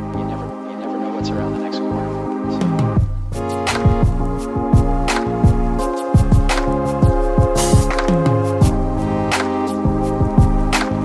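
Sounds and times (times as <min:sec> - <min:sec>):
deep bass notes sliding down: 0:01.4 - 0:11.0.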